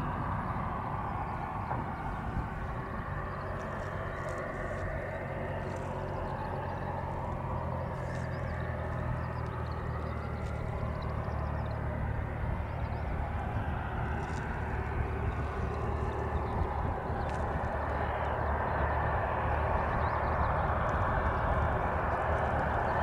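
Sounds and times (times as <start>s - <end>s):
light aircraft engine and propeller: 0.0s - 23.0s.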